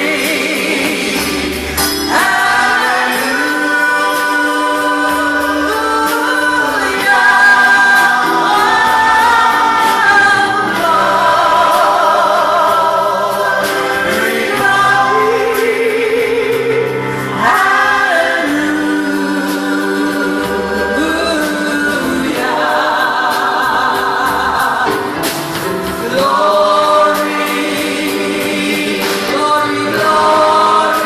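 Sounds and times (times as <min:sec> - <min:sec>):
drum kit: 0:00.0 - 0:31.0
gospel choir singing: 0:00.0 - 0:31.0
keyboard: 0:00.0 - 0:31.0.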